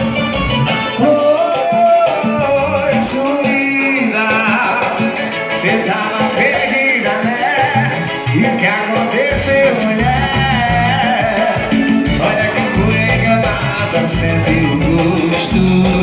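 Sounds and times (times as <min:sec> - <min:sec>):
upbeat latin song: 0:00.0 - 0:16.0.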